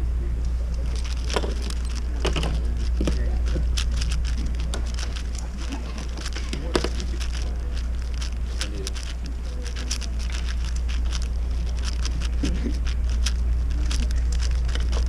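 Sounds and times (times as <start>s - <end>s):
steady low hum: 0.0s - 15.0s
puzzle cube layers clicking: 0.8s - 15.0s.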